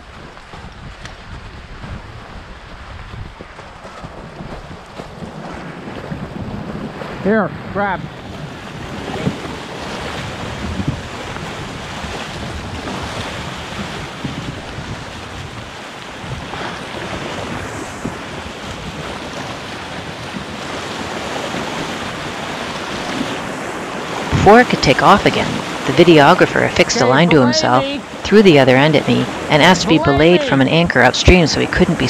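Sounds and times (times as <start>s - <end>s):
wind buffeting microphone: 0.0s - 32.0s
river water rushing: 3.5s - 32.0s.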